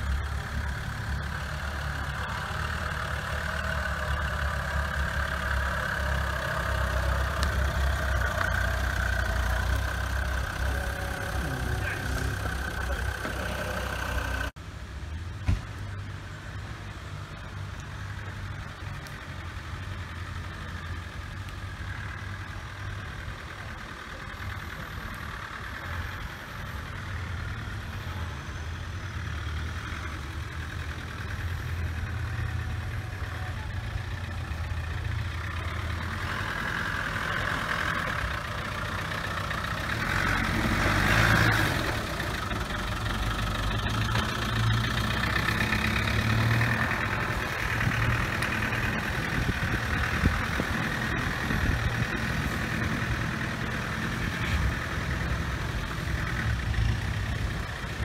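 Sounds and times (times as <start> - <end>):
truck engine at low revs: 0.0 - 58.0.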